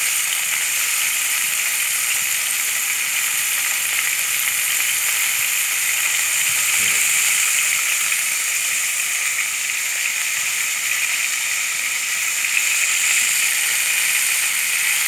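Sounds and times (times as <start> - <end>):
pork sizzling in frying oil: 0.0 - 15.0.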